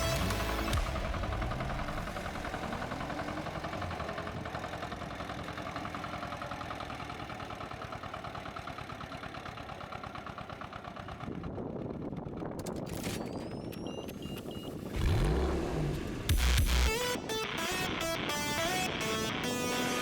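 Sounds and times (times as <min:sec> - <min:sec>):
diesel cultivator engine running: 0:00.0 - 0:20.0.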